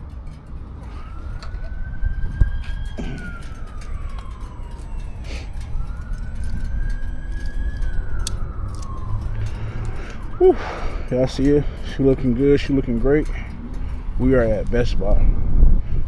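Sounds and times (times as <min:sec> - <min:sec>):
low traffic rumble: 0:00.0 - 0:16.0
emergency siren wailing: 0:00.2 - 0:15.4.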